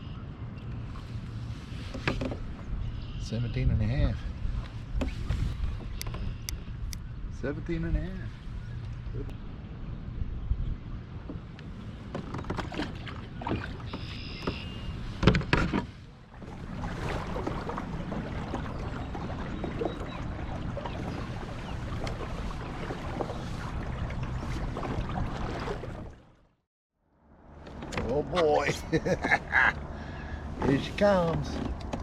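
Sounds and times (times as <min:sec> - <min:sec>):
water sloshing around kayak: 0:00.6 - 0:06.6, 0:11.2 - 0:26.6, 0:27.7 - 0:32.0.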